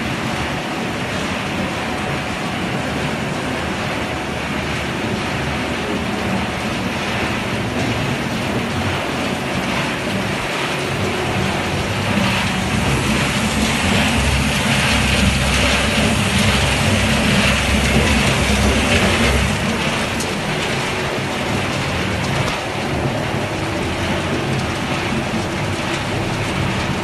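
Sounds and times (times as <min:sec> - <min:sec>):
continuous rattling hiss: 0:00.0 - 0:27.0
factory machinery hum and rumble: 0:00.0 - 0:27.0.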